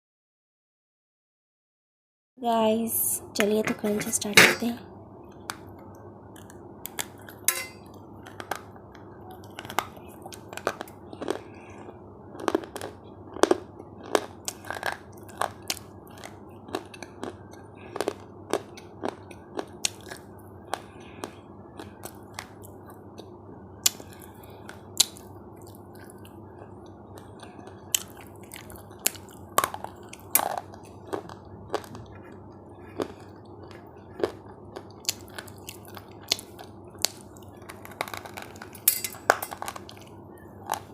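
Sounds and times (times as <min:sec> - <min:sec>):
crunchy food being chewed: 0:06.3 - 0:40.9.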